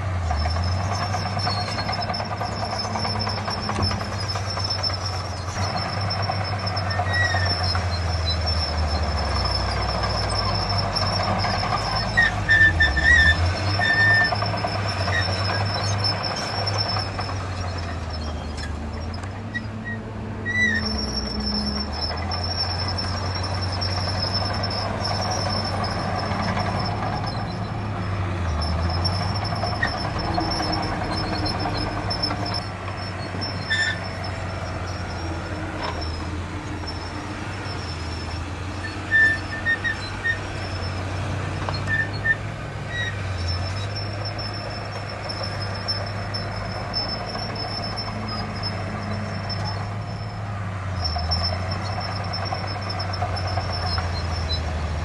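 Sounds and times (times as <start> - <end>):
diesel machinery engine running: 0.0 - 55.0
short high squeaks: 0.0 - 55.0.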